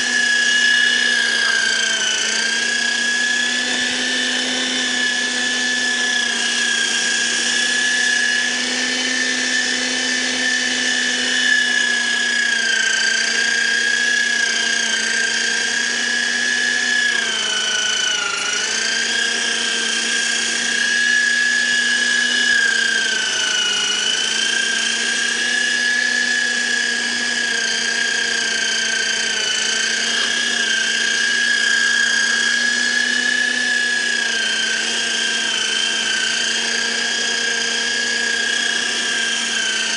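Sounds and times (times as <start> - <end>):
meat grinder motor whining: 0.0 - 39.9.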